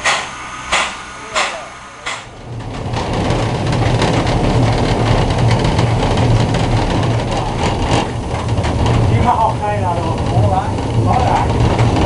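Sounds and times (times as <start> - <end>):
steam locomotive wheels rumbling: 0.0 - 12.0.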